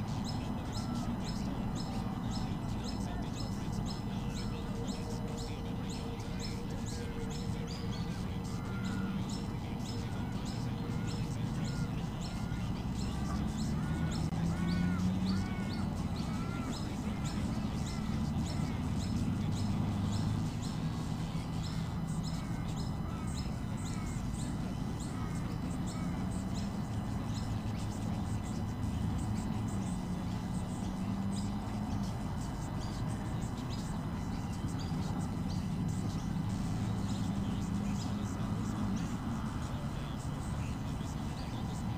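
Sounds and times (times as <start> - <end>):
low droning hum: 0.0 - 41.9
small birds chirping: 0.0 - 41.9.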